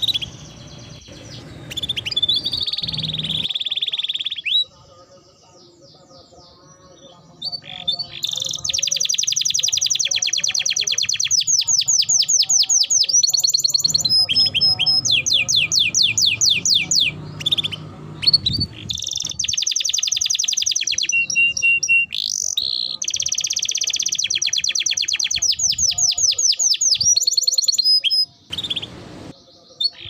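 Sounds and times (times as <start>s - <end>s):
canary singing: 0.0s - 30.0s.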